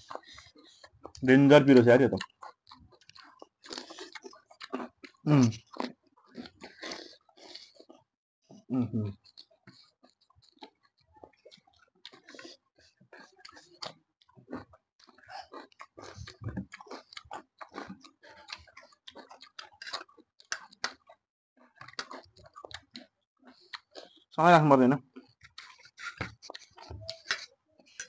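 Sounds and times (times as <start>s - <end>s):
people chewing with mouth smacks: 0.0s - 24.4s, 25.0s - 28.0s.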